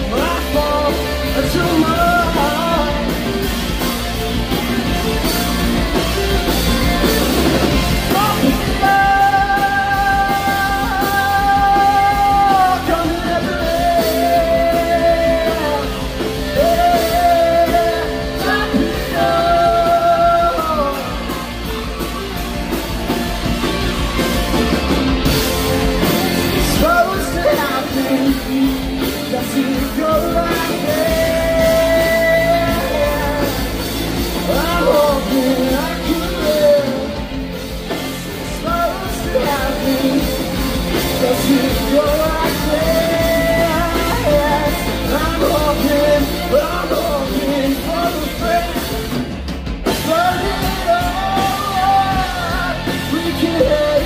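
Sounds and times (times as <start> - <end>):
lead vocal singing: 0.0 - 24.5, 25.2 - 54.0
bass guitar: 0.0 - 54.0
drums: 0.0 - 54.0
electric guitars: 0.0 - 54.0.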